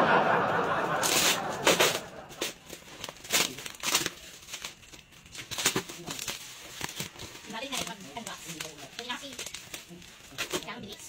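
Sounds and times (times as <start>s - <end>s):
plastic wrapping crinkling: 0.8s - 11.0s.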